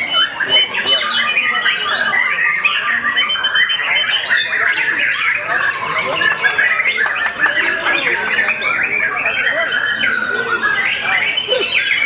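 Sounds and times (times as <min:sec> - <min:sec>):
caged songbirds singing: 0:00.0 - 0:12.0.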